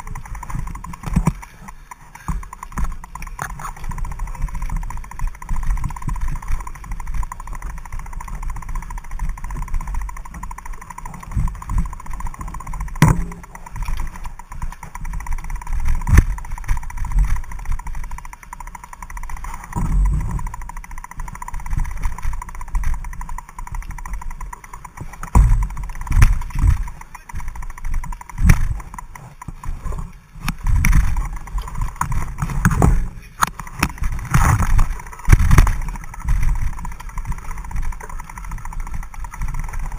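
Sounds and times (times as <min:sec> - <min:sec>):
bike clicks and rattles: 0:00.0 - 0:39.9
footsteps and bike thumps: 0:00.0 - 0:39.9.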